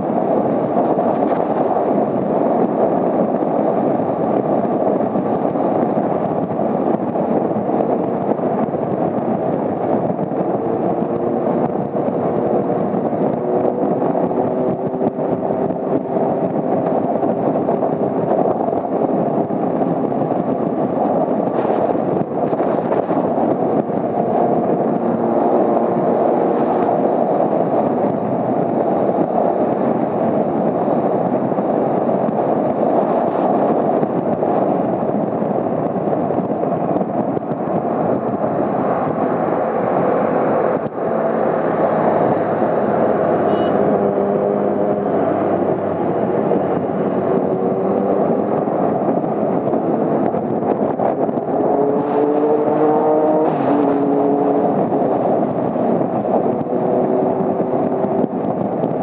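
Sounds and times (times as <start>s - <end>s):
wind rush: 0.0s - 59.0s.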